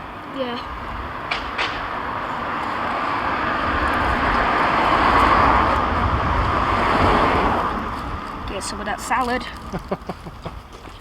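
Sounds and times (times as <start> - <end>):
vehicle passing: 0.0 - 10.7.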